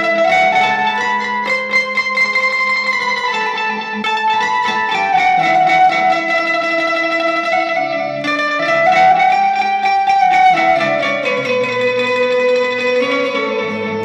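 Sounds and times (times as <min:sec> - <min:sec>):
electric keyed banjo melody: 0:00.0 - 0:14.0.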